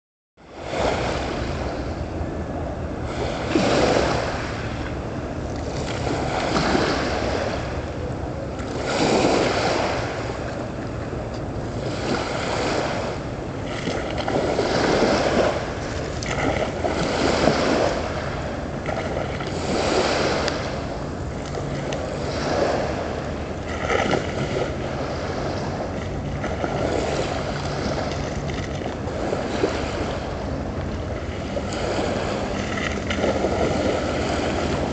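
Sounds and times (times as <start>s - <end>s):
ship engines humming: 0.4s - 34.9s
small waves washing in: 0.4s - 34.9s.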